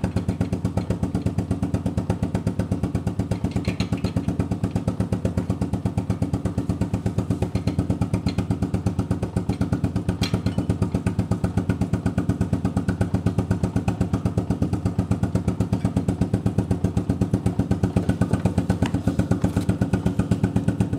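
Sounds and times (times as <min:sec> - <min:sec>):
atv engine idling: 0:00.0 - 0:20.9.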